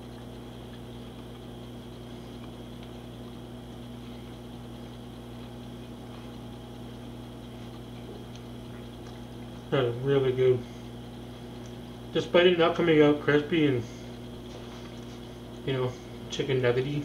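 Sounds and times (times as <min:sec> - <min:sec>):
steady low appliance hum: 0:00.0 - 0:17.0.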